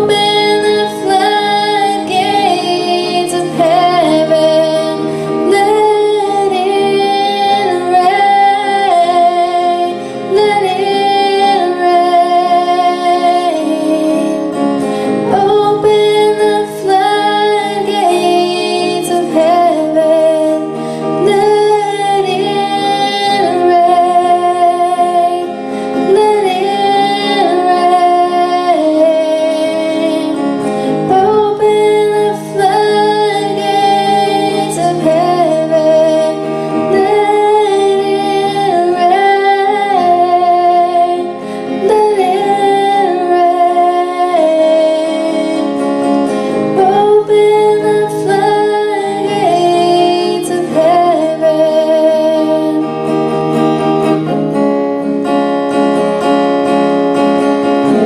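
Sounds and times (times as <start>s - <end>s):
woman singing: 0.0s - 54.4s, 57.7s - 58.0s
guitar accompaniment: 0.0s - 58.0s.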